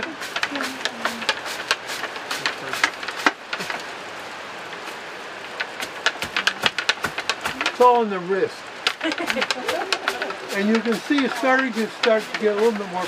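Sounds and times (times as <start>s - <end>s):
dried straw crackling and snapping: 0.0s - 4.0s, 4.7s - 8.1s, 8.8s - 13.0s.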